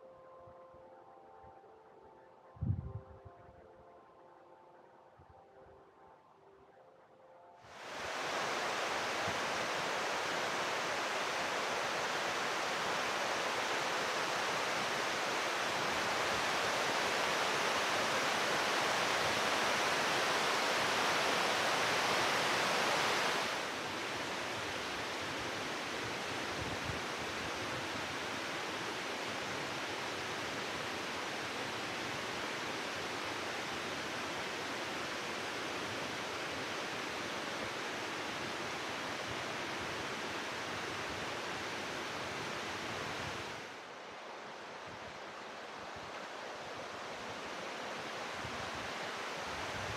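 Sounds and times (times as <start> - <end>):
falling water rushing: 7.7 - 49.9.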